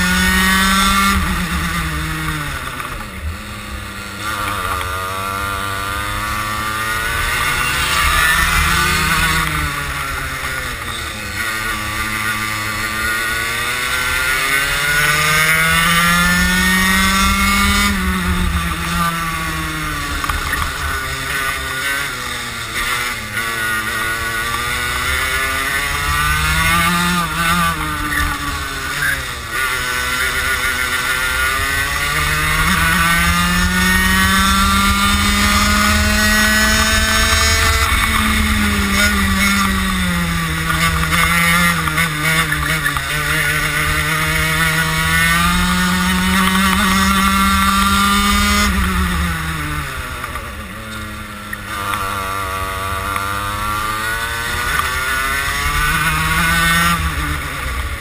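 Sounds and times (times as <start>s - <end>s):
kart engine at full throttle: 0.0s - 58.0s.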